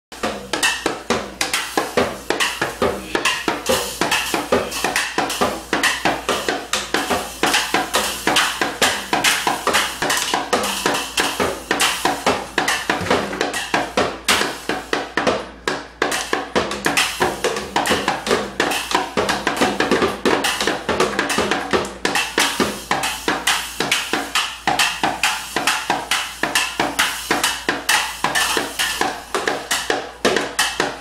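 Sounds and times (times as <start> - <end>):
toy drums banged with drumsticks: 0.2 - 31.0.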